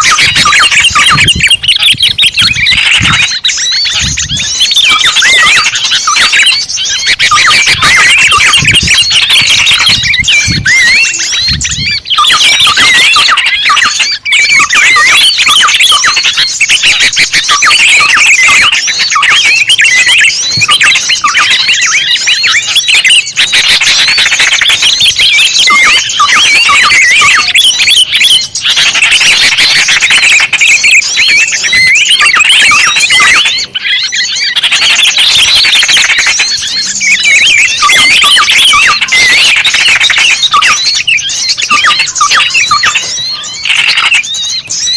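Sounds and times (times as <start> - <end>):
small birds chirping and trilling: 0.0 - 44.9.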